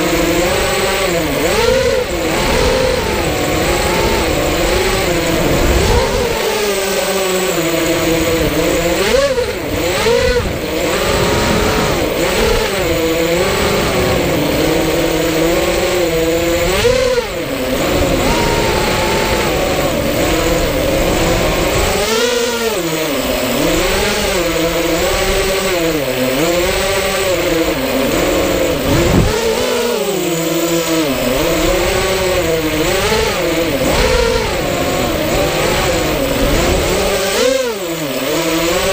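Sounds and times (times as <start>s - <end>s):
drone motors and propellers whining: 0.0s - 38.9s.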